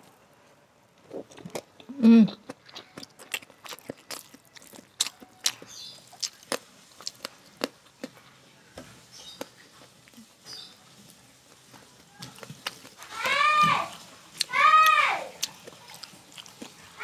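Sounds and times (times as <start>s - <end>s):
person chewing: 1.0s - 8.4s, 9.0s - 17.0s.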